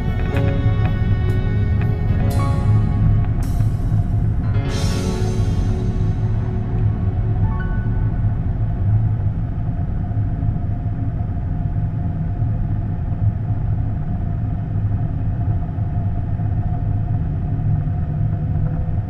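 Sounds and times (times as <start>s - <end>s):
faint cabin hum: 0.0s - 19.0s
jet engine low rumble: 0.0s - 19.0s.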